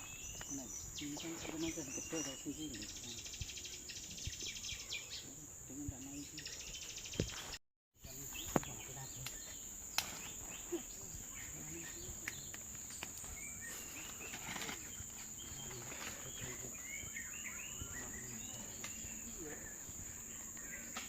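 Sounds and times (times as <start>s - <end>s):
insects droning: 0.0s - 21.0s
small birds chirping: 0.0s - 21.0s.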